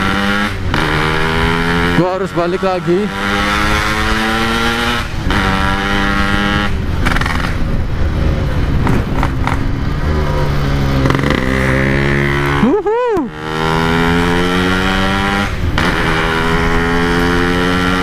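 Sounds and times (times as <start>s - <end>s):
two-stroke motorcycle engine: 0.0s - 18.0s.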